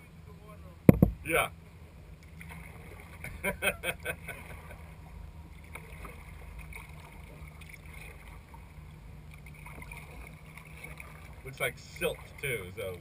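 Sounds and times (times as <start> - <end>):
steady low rumble: 0.0 - 13.0
water sloshing against kayak hull: 2.1 - 13.0.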